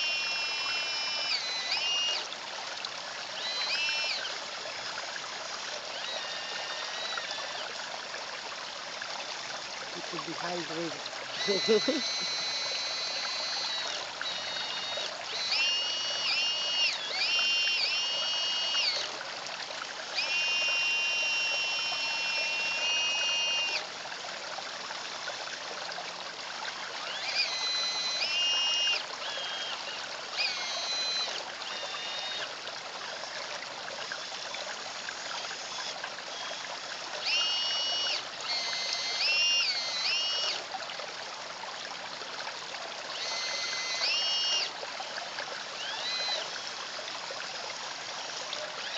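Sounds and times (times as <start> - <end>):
electric motor whine: 0.0 - 7.8, 9.8 - 19.3, 20.0 - 23.9, 26.6 - 32.6, 34.0 - 40.7, 43.1 - 48.9
water trickling into a pond: 0.0 - 48.9.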